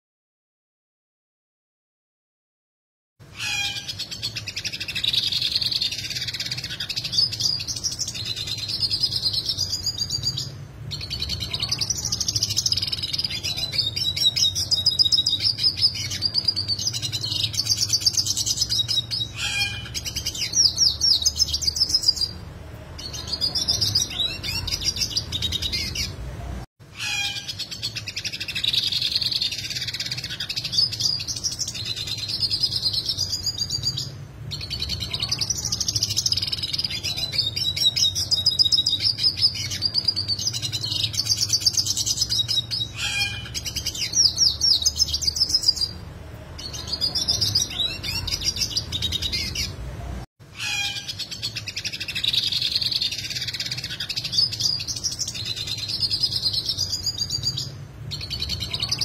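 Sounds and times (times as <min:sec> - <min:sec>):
bird twittering song: 0:03.3 - 0:22.4, 0:23.0 - 0:26.2, 0:26.9 - 0:46.0, 0:46.6 - 0:49.8, 0:50.6 - 0:59.0.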